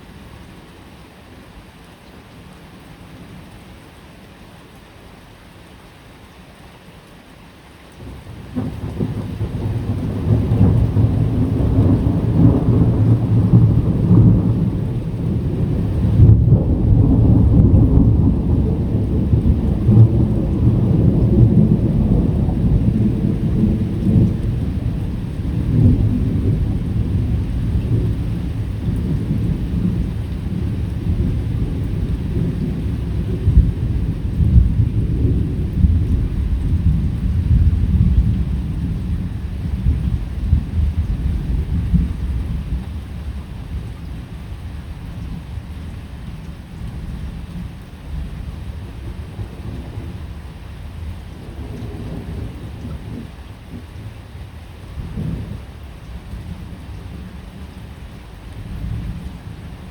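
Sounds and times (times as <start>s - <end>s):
faint rain: 0.0s - 59.9s
low rumble of thunder: 8.0s - 59.9s.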